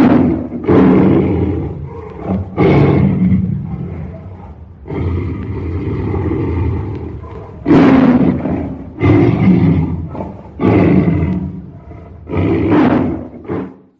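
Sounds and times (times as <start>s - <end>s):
tiger roaring: 0.0s - 13.9s.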